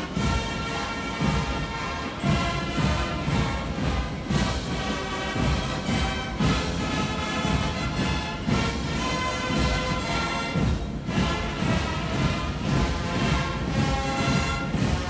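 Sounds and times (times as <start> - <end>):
brass band playing a march: 0.0 - 15.0
steady drum beat: 0.0 - 15.0.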